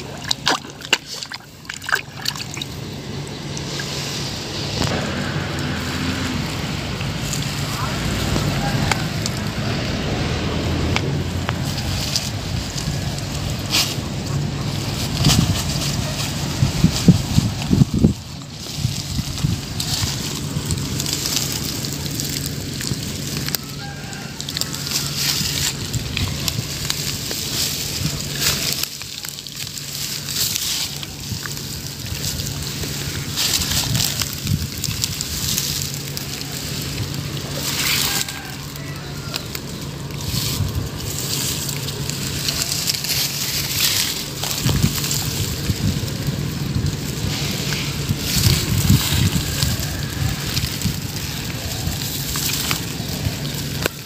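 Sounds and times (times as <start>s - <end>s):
dry straw rustling and crackling: 0.0s - 54.0s.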